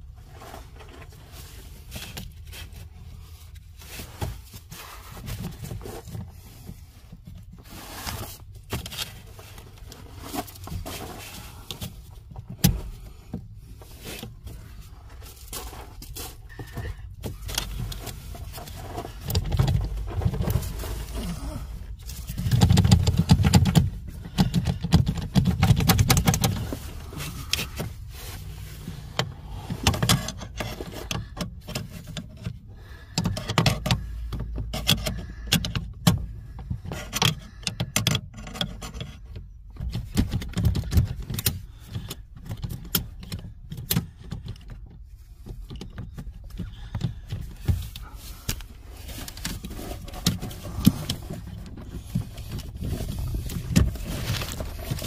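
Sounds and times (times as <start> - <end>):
handling rustling and thumps: 0.0 - 55.0.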